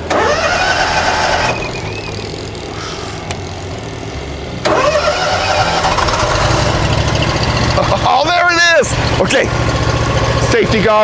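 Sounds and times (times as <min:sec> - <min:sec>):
lawn mower engine revving: 0:00.0 - 0:11.0.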